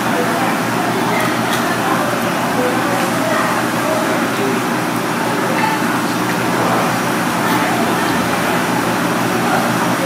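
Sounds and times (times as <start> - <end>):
busy shop hum: 0.0 - 10.0
distant indistinct voices: 0.0 - 10.0.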